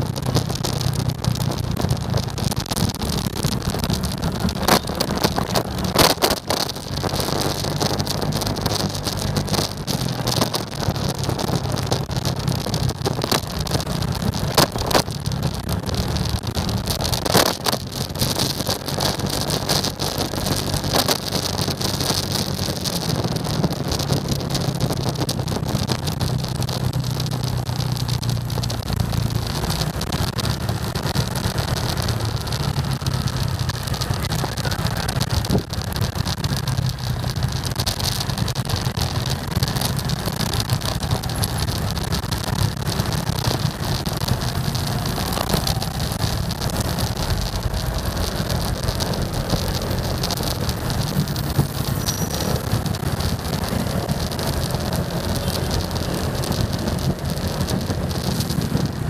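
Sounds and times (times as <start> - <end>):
wind rushing on microphone: 0.0 - 59.0.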